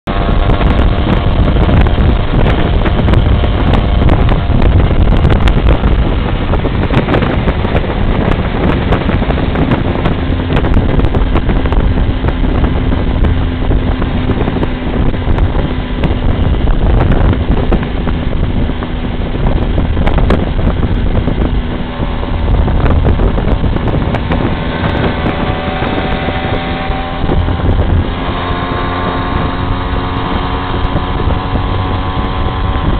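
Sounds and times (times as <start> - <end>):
motorcycle engine running: 0.0 - 32.9
wind buffeting microphone: 0.0 - 32.9.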